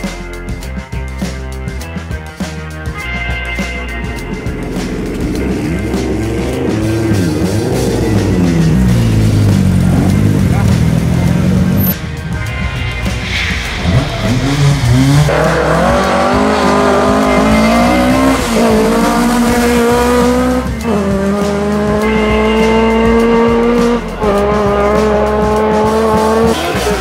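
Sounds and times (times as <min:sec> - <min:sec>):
rally car engine revving: 0:03.6 - 0:27.0.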